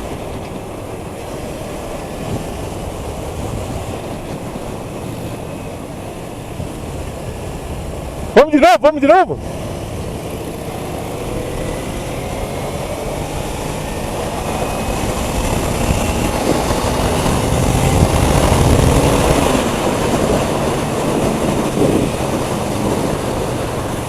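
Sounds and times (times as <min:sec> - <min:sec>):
motorcycle engine accelerating: 0:00.0 - 0:08.6, 0:09.3 - 0:24.0
wind rush on microphone: 0:00.0 - 0:24.0.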